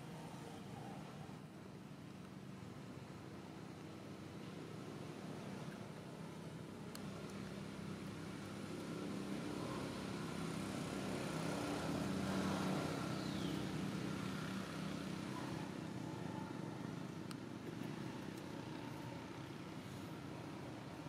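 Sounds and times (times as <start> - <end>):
vehicle engine hum: 0.0 - 21.0.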